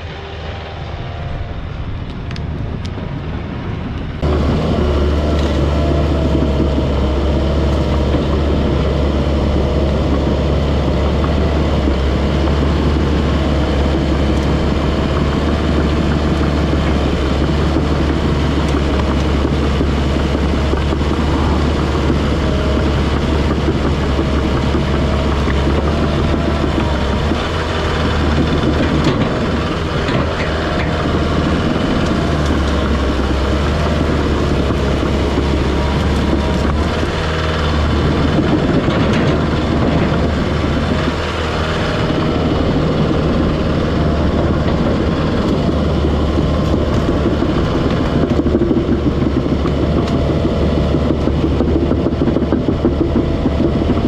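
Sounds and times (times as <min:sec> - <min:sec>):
dozer diesel engine under load: 0:00.0 - 0:54.0.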